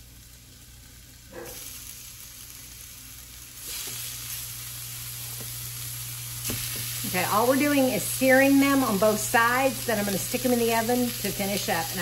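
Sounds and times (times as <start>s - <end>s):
pork chops sizzling in skillet: 0.0s - 12.0s.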